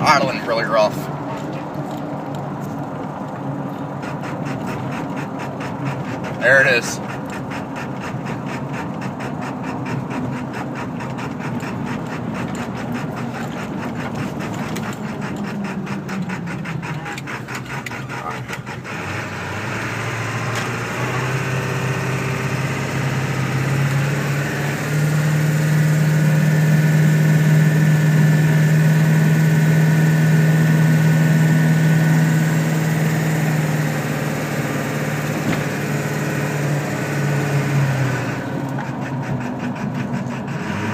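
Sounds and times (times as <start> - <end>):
diesel engine rough idle: 0.0 - 40.9
engine whine: 0.0 - 40.9.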